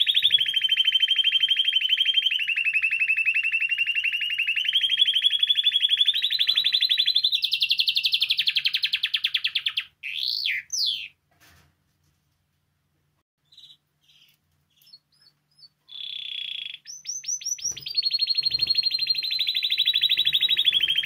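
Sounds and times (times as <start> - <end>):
canary singing a rolling trill: 0.0 - 11.2, 13.4 - 21.0.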